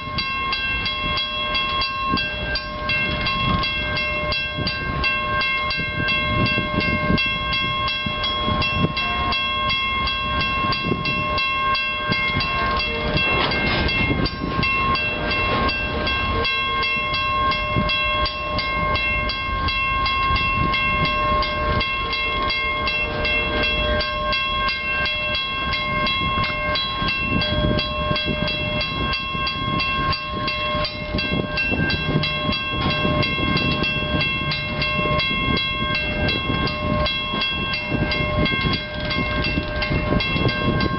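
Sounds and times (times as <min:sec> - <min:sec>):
level crossing bell ringing: 0:00.0 - 0:40.9
train wheels rumbling on rail: 0:00.0 - 0:40.9.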